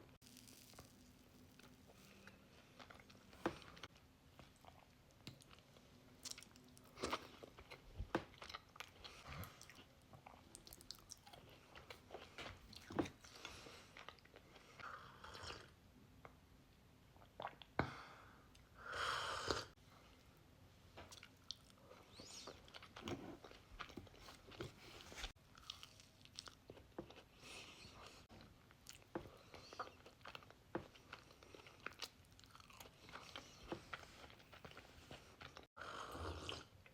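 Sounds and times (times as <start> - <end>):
person chewing crunchy cookies: 0.2 - 15.8, 21.1 - 36.9.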